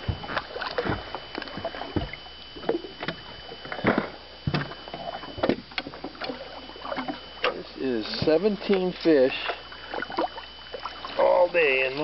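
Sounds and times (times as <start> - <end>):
gear clattering in a boat: 0.0 - 12.0.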